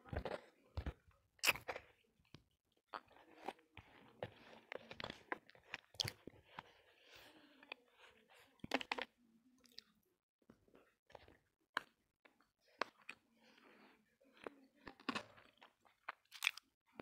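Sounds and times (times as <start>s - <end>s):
person chewing crunchy clay: 0.1s - 10.0s, 10.6s - 17.0s.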